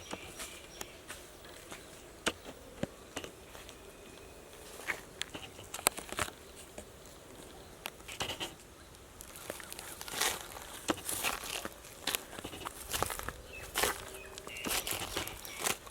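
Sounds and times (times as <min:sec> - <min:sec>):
insects buzzing: 0:00.0 - 0:15.9.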